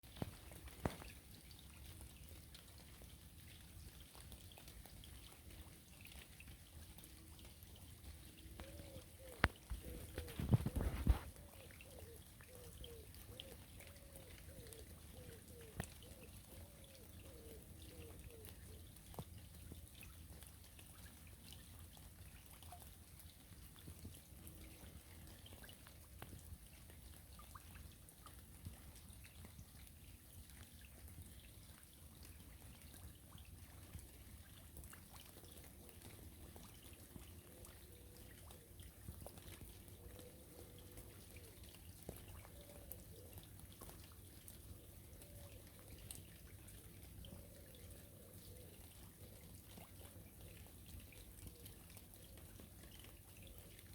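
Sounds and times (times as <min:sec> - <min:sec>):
rain falling on a river: 0:00.0 - 0:53.9.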